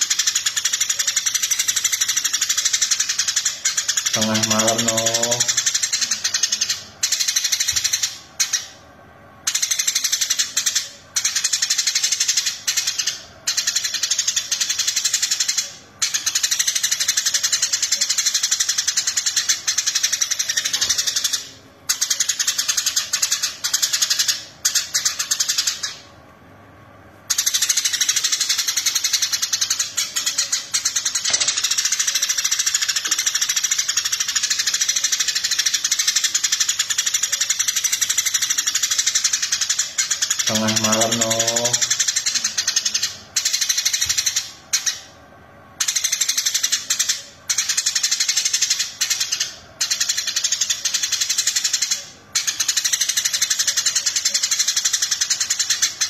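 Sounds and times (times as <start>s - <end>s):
sparrow chirping: 0.0s - 8.8s, 9.4s - 26.1s, 27.3s - 45.2s, 45.8s - 56.0s.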